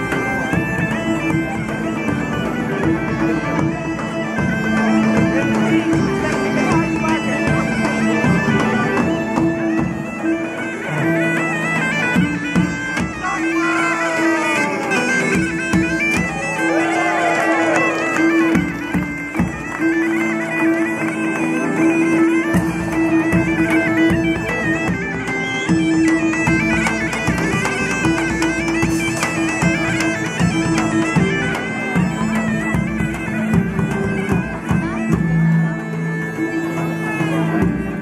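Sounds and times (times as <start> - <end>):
bagpipes playing over drone: 0.0 - 38.0.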